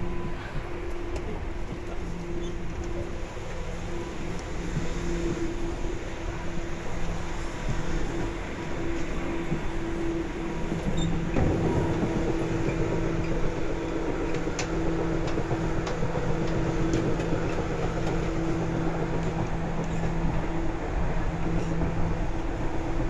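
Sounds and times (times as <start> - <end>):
electric train motor hum: 0.0 - 23.0
wheel-on-rail rumble: 0.0 - 23.0.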